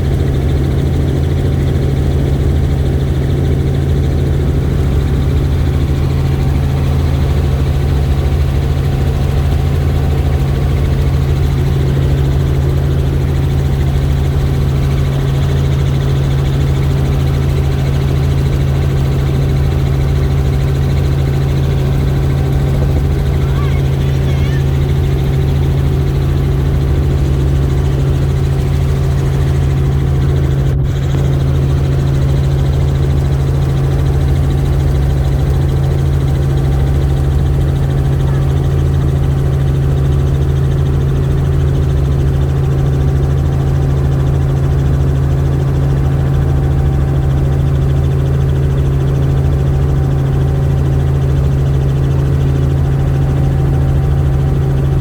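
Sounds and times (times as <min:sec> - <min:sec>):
helicopter engine and rotor hum: 0:00.0 - 0:55.0.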